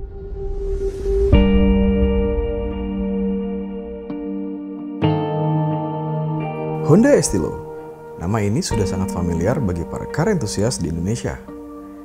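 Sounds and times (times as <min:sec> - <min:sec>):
bell-like ambient chord: 0:01.5 - 0:12.0.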